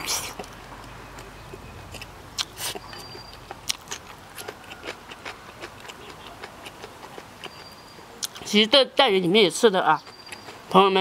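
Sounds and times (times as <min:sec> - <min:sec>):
chewing with crunches: 0:00.0 - 0:08.8, 0:09.6 - 0:11.0.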